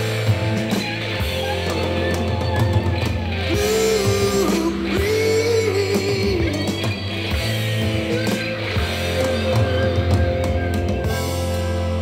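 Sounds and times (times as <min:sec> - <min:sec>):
bass and drums: 0:00.0 - 0:12.0
lead guitar bending long notes: 0:00.0 - 0:12.0
rock music through loudspeakers: 0:00.0 - 0:12.0.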